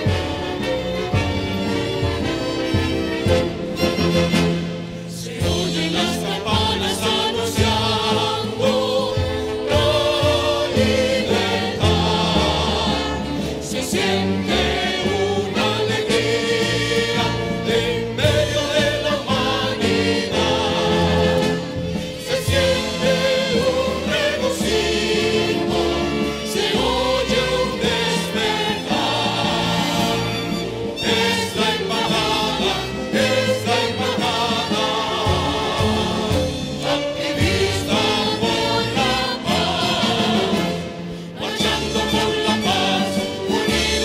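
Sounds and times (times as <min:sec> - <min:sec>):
choir singing: 0:00.0 - 0:44.0
strings: 0:00.0 - 0:44.0.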